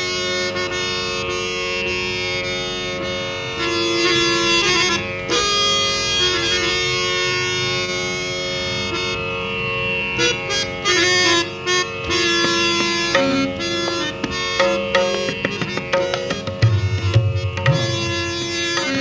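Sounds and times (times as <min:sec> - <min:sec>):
harmonium solo over drone: 0:00.0 - 0:19.0.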